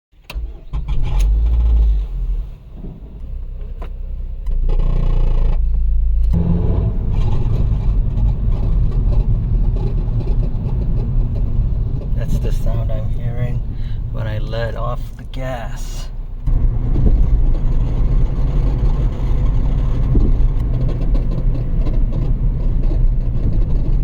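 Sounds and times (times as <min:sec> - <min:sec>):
car engine revving: 0:04.1 - 0:24.0.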